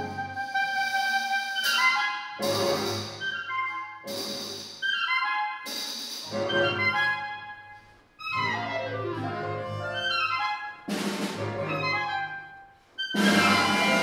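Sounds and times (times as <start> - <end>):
small ensemble playing concert music: 0.0 - 7.5, 8.3 - 14.0
clarinet: 0.0 - 14.0.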